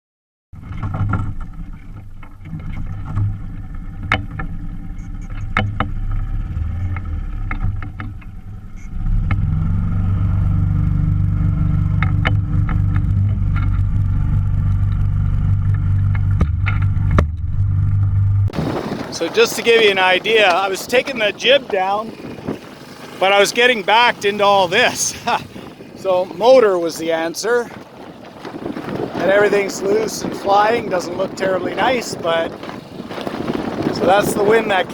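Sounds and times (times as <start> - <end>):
outboard motor running: 0.6 - 34.9.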